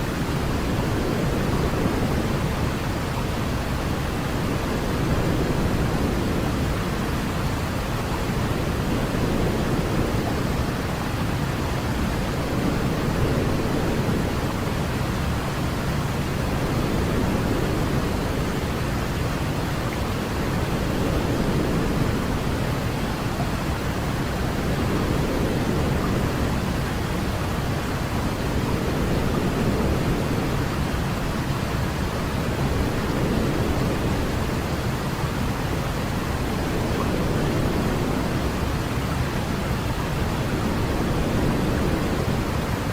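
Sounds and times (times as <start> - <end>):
deep white noise hiss: 0.0 - 42.9.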